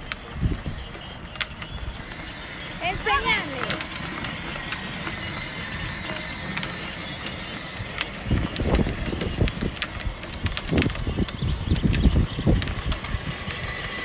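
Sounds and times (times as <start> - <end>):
plastic wheels rolling on asphalt: 0.0 - 14.0
toy car electric motor whining: 1.2 - 14.0.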